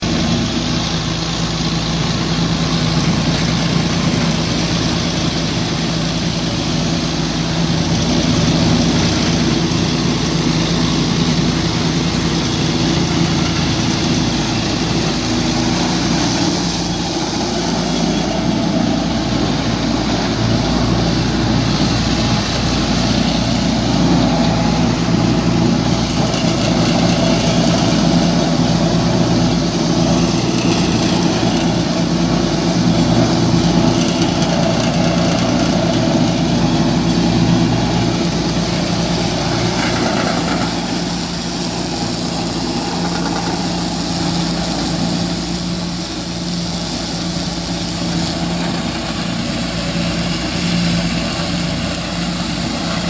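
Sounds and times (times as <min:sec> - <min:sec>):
tractor diesel engine running: 0:00.0 - 0:53.0
straw chopper hissing: 0:04.3 - 0:53.0.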